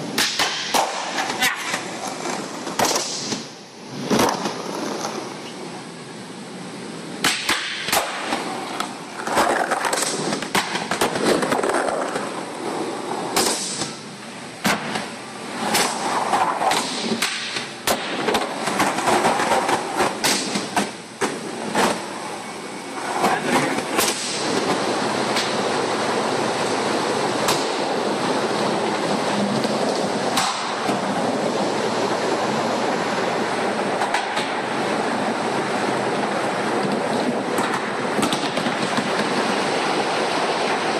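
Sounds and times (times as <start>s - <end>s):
skateboard wheels rolling: 0.0s - 5.8s, 6.8s - 40.9s.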